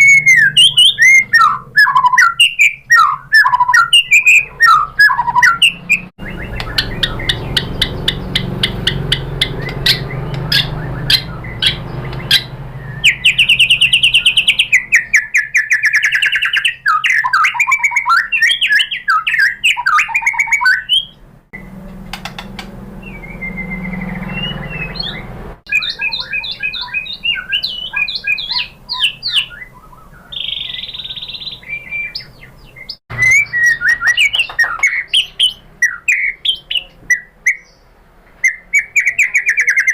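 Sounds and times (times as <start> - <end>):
songbird whistling and trilling: 0.0 - 21.7, 23.0 - 39.9.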